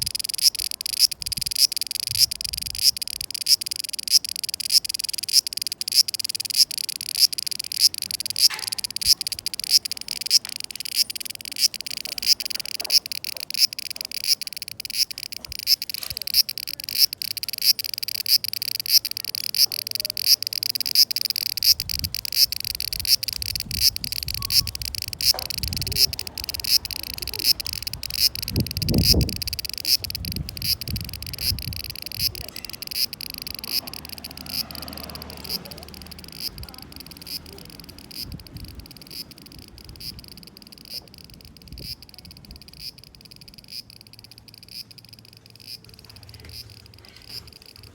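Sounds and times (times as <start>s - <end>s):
cicadas buzzing: 0.0s - 47.9s.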